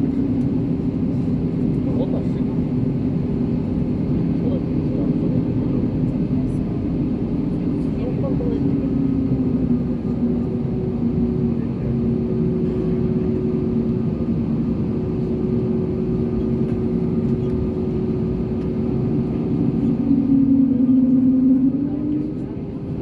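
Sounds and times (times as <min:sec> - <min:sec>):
jet engines heard from cabin: 0:00.0 - 0:23.0.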